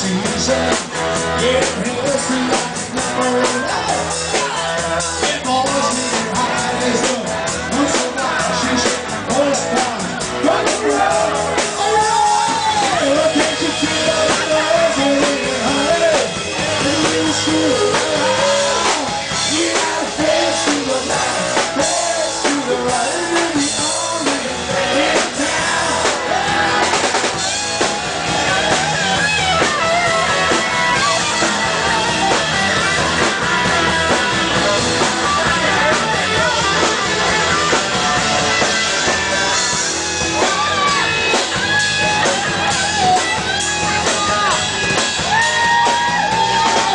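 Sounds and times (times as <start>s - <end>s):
person singing: 0.0s - 39.2s
drum kit: 0.0s - 46.9s
guitar lead line: 0.0s - 46.9s.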